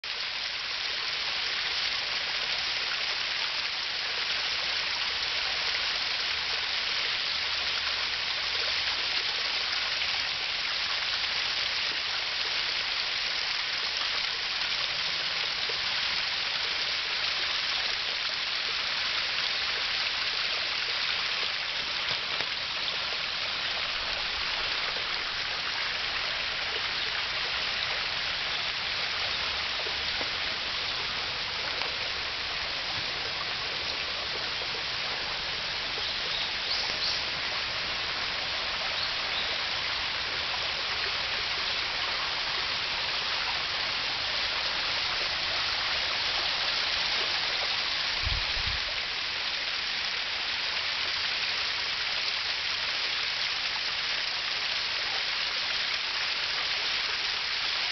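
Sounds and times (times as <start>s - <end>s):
small waterfall splashing: 0.0s - 57.9s.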